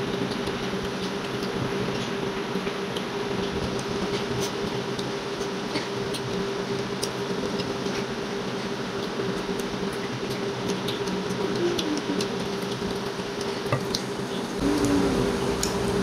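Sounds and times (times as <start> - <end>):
chewing and smacking: 0.0 - 14.9
room hum: 0.0 - 16.0.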